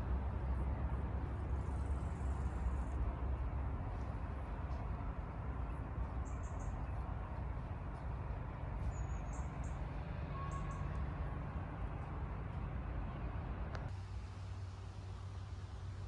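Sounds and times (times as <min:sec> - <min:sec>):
steady low rumble: 0:00.0 - 0:10.3, 0:10.9 - 0:16.0.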